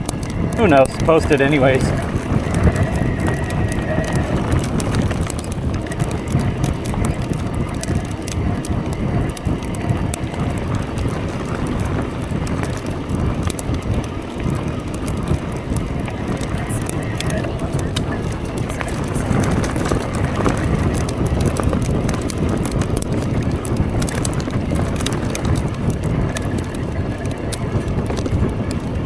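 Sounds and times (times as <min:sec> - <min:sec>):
bike clicks and rattles: 0:00.0 - 0:29.0
bike tyres rumbling on rocky trail: 0:00.0 - 0:29.0
wind buffeting microphone: 0:00.0 - 0:29.0.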